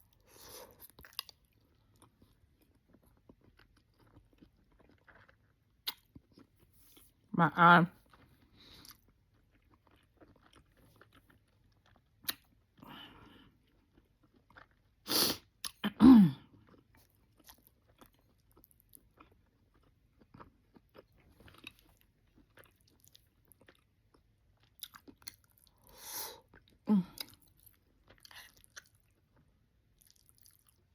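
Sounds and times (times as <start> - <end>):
chewing and lip smacks: 0.1 - 7.1, 8.0 - 12.8, 13.5 - 15.8, 16.6 - 30.9.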